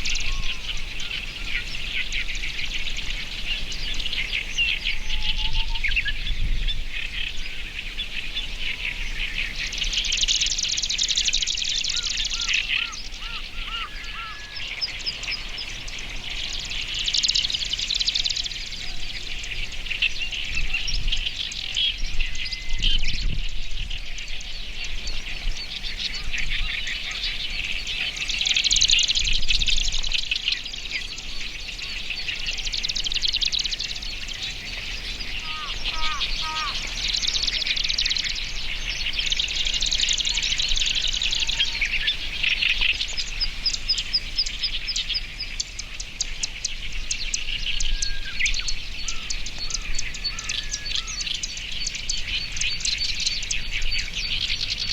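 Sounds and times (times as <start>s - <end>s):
bird chattering song: 0.0s - 54.9s.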